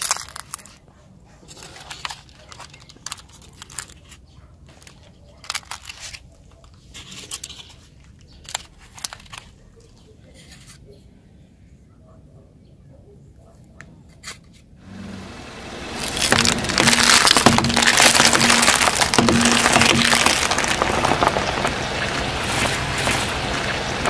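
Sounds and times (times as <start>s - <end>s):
egg cartons rustling and clicking: 0.0s - 11.0s, 13.9s - 24.0s.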